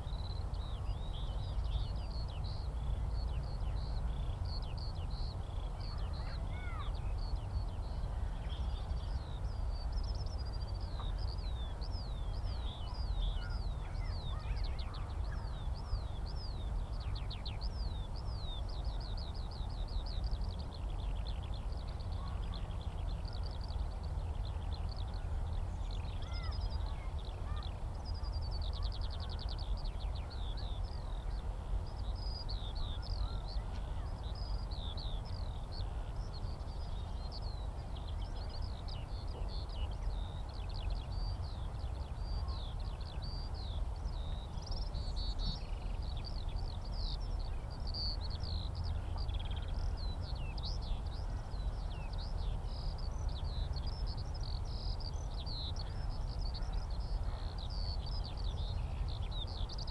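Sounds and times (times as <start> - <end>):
skylark song: 0.0 - 59.9.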